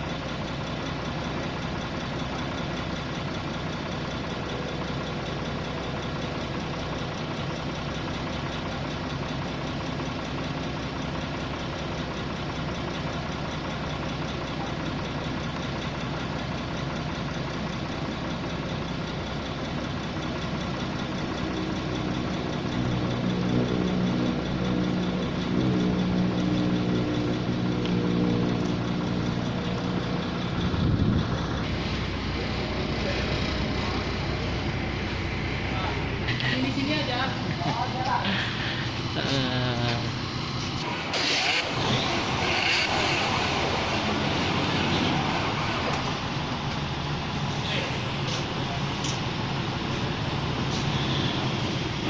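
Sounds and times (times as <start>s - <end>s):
air compressor engine idling: 0.0s - 52.0s
deep engine hum: 0.0s - 52.0s.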